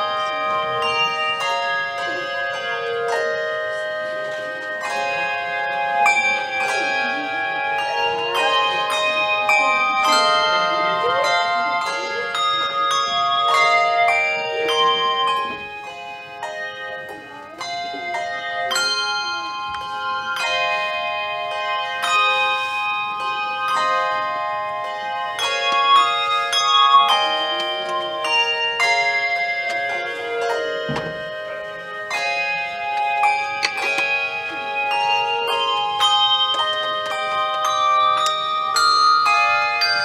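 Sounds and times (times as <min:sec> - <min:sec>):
handbell choir playing: 0:00.0 - 0:40.0.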